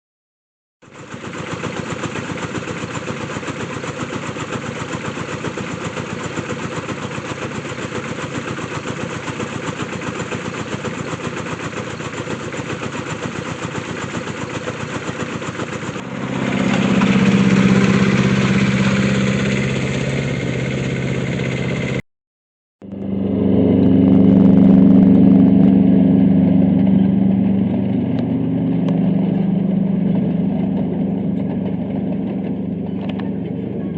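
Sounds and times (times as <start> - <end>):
deep engine hum: 0.8 - 22.0, 22.8 - 33.9
miniature locomotive pulsing: 0.8 - 22.0, 24.0 - 33.9.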